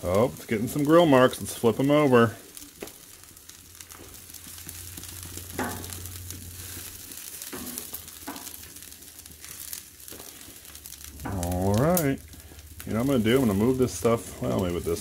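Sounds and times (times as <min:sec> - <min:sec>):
chicken sizzling on a grill: 0:00.0 - 0:15.0.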